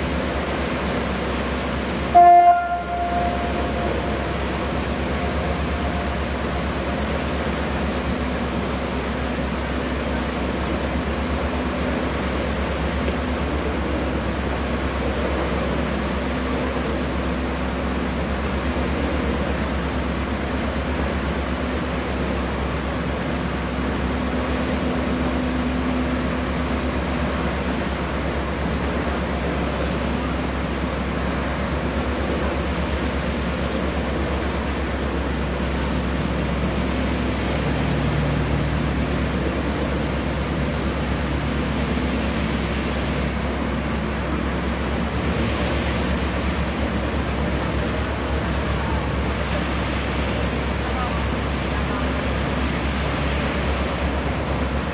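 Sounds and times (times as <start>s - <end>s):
ferry engines droning: 0.0s - 54.9s
rush of churned water: 0.0s - 54.9s.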